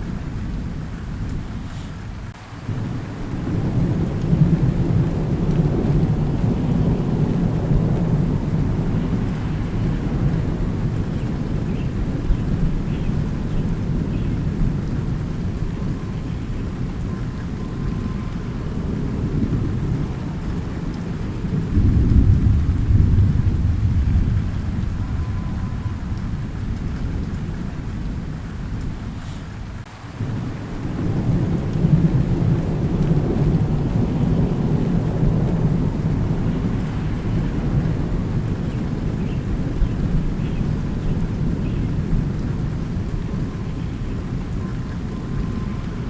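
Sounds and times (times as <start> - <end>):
steady rain: 0.0 - 46.0
thunder rumbling: 0.0 - 46.0.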